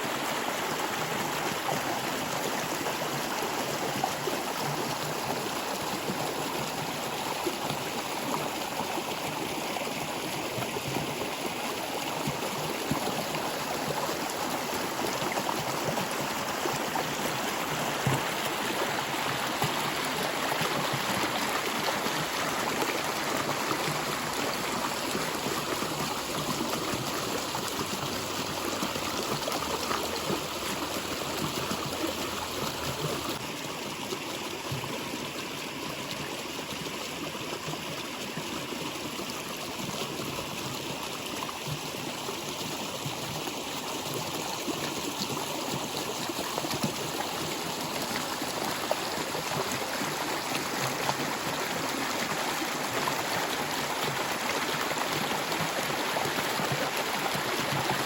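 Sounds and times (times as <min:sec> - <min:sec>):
water flowing: 0:00.0 - 0:58.0.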